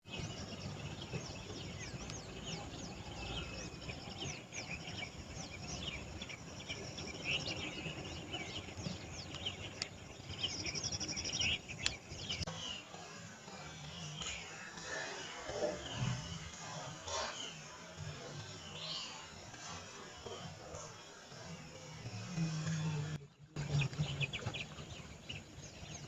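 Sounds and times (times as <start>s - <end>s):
birds chirping and calling: 0.0s - 26.0s.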